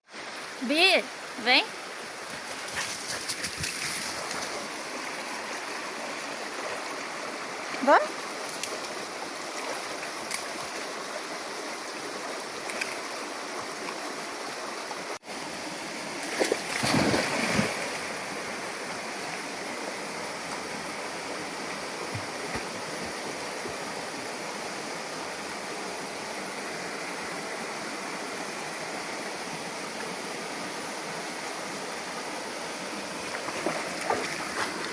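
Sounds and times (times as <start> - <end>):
stream running: 0.0 - 34.9.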